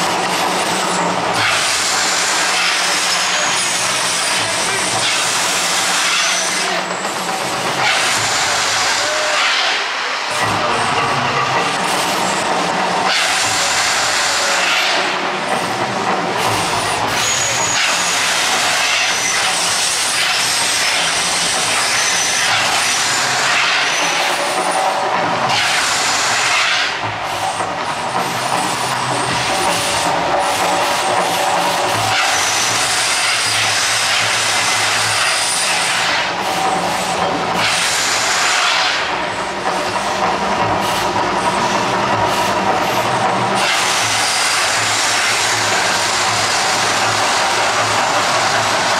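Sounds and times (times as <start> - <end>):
fire jets and fountains hissing: 0.0 - 11.0, 11.7 - 40.2, 40.8 - 48.9.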